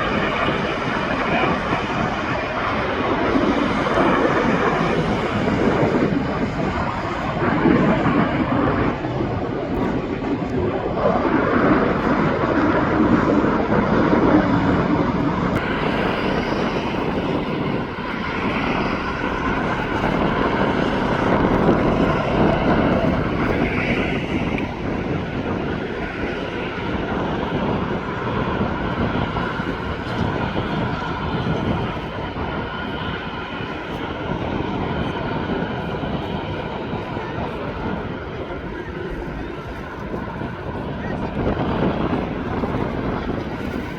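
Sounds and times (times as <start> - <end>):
jet engines roaring: 0.0 - 43.9.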